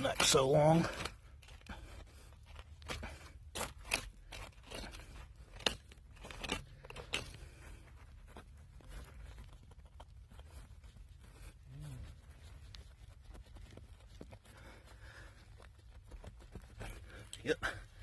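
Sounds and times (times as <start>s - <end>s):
digging crunches and scrapes: 0.0s - 18.0s.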